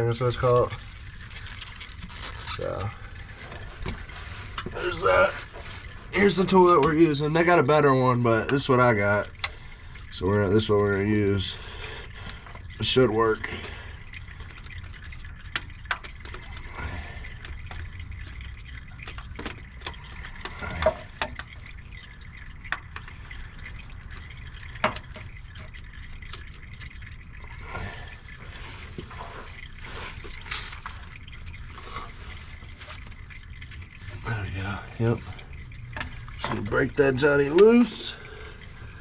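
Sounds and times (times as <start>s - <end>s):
oil dripping into pan: 0.0s - 39.0s.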